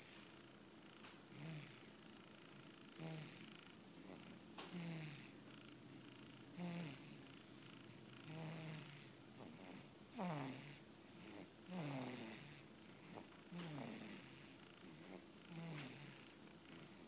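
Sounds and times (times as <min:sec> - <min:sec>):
baby snoring faintly: 0:00.0 - 0:17.0.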